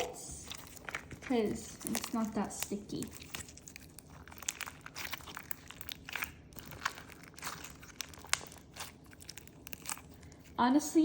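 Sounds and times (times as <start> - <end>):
slime beads crunching: 0.0 - 10.8.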